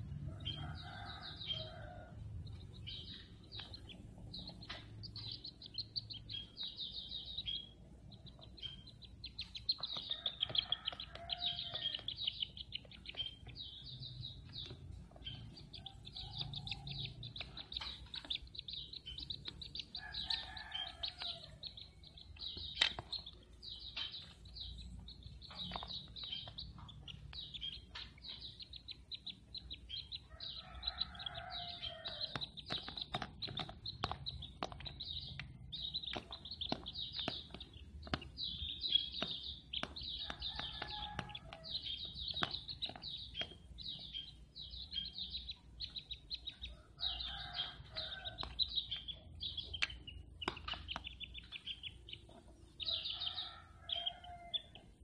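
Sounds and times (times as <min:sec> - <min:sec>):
nestlings chittering: 0:00.4 - 0:55.0.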